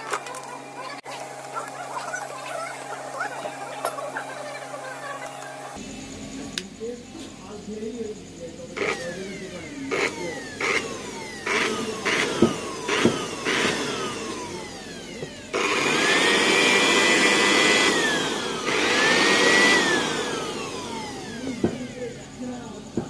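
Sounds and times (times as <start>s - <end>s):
electric blower motor whine: 0.0s - 23.0s.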